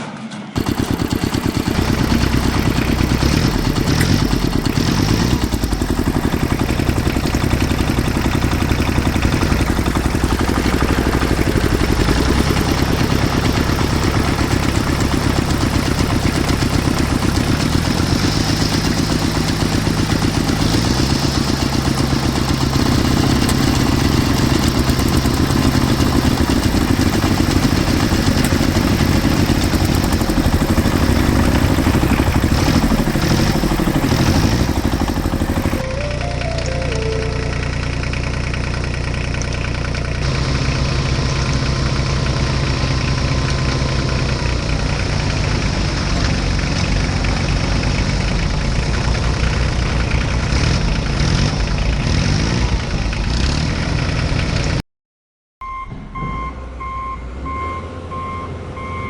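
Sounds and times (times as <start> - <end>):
engine running: 0.0 - 54.8.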